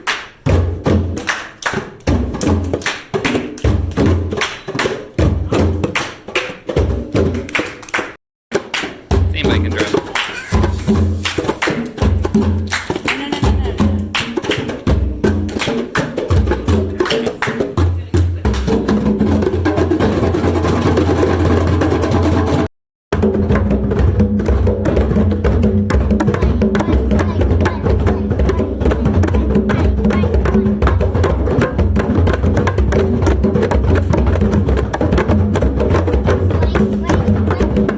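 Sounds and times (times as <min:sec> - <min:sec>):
hand drums playing: 0:00.4 - 0:07.5, 0:08.5 - 0:37.9.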